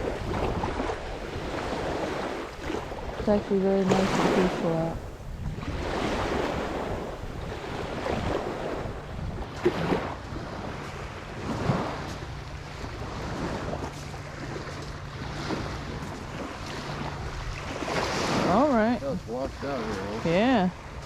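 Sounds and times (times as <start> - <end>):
small waves washing on shore: 0.0 - 21.0
wind buffeting microphone: 0.0 - 21.0.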